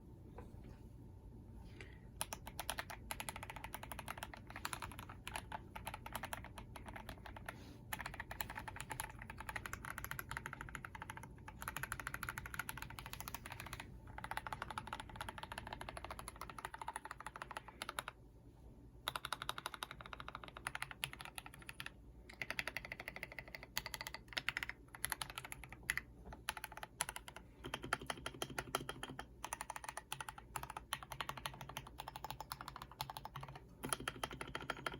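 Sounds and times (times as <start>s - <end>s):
mechanical keyboard typing: 2.2s - 18.2s, 19.0s - 34.9s.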